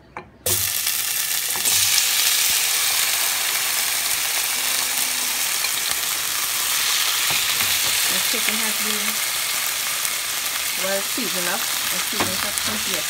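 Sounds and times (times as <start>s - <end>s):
chicken sizzling in hot oil: 0.5s - 13.0s.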